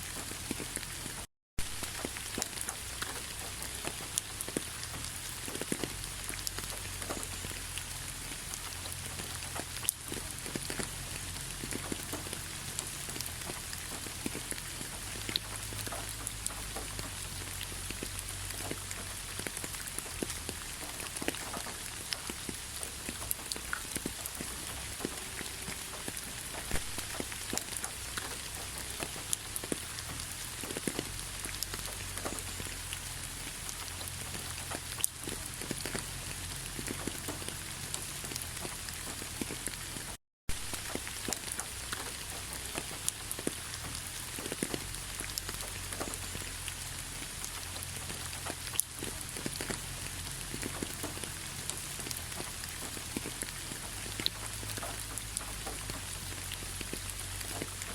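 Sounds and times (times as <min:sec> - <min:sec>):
rain falling: 0:00.0 - 0:57.9
raindrops ticking on surface: 0:00.0 - 0:57.9.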